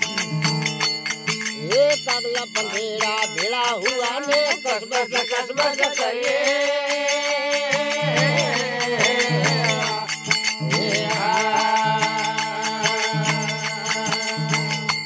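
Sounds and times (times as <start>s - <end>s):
fast steady percussion: 0.0s - 15.0s.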